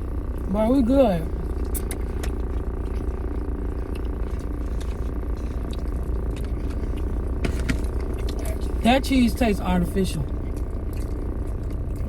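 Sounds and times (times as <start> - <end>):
car engine running low rumble: 0.0 - 12.0.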